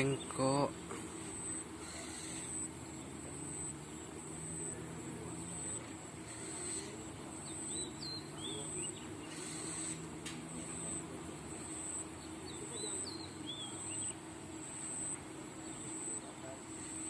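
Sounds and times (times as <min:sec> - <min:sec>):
bird chirping: 0:00.0 - 0:17.0
high insect buzz: 0:00.0 - 0:17.0
small engine running: 0:00.0 - 0:17.0.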